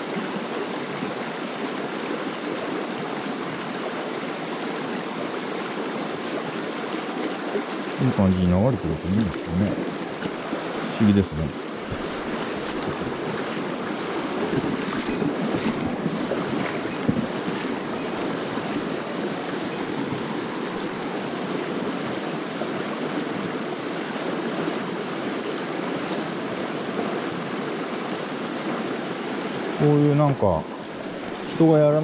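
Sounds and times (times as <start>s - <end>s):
stream water rushing over rocks: 0.0s - 32.0s.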